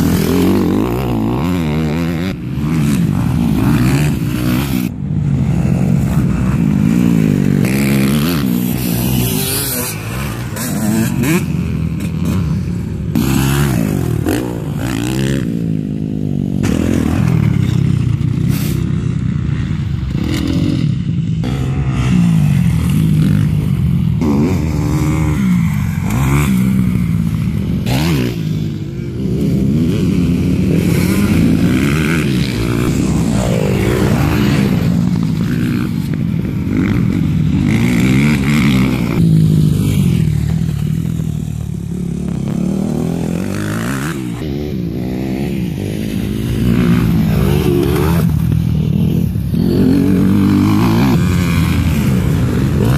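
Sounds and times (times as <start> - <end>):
motocross bike engines revving: 0.0 - 52.9.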